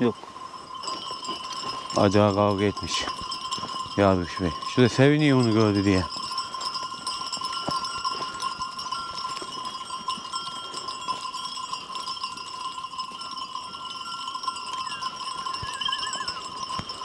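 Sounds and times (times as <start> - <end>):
sheep bells jingling: 0.0 - 17.0.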